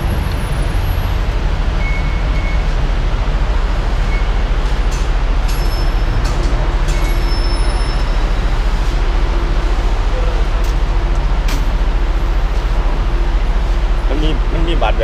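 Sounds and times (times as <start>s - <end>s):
low rumble of train station: 0.0s - 15.0s.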